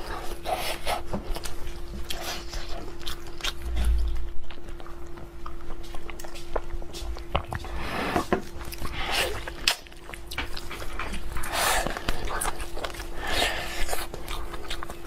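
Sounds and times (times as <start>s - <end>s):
person chewing food: 0.0s - 15.0s
steady hum: 0.0s - 15.0s.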